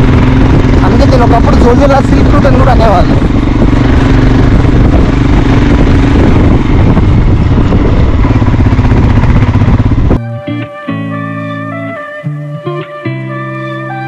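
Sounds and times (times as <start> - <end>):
vehicle engine running: 0.0 - 12.0
road noise: 0.0 - 14.0.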